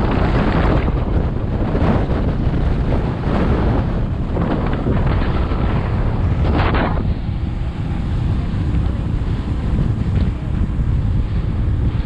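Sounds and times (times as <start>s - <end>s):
wind rumbling on camera microphone: 0.0s - 12.0s.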